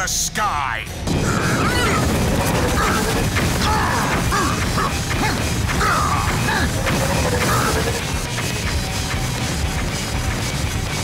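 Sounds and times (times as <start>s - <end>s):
action music: 0.0s - 11.0s
mechanical clanking and crashing: 1.0s - 11.0s.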